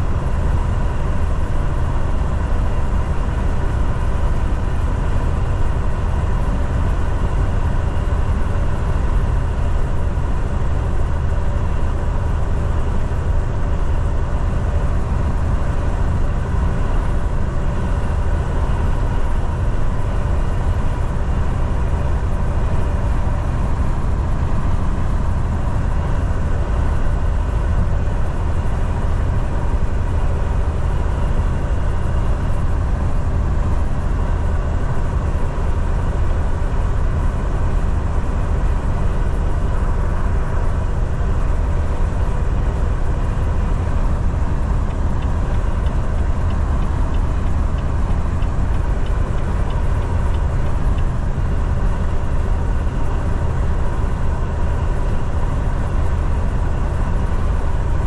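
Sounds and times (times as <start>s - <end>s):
truck engine and road noise: 0.0s - 58.0s.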